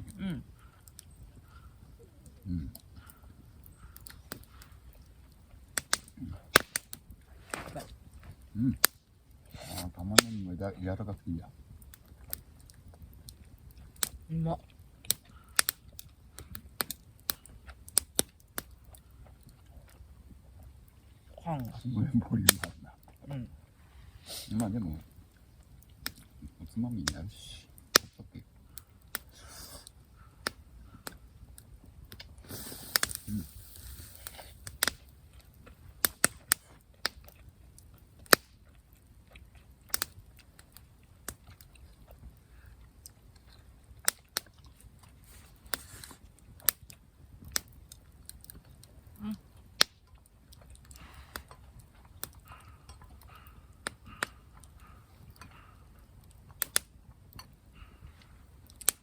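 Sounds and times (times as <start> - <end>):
firewood crackling: 0.0 - 59.0.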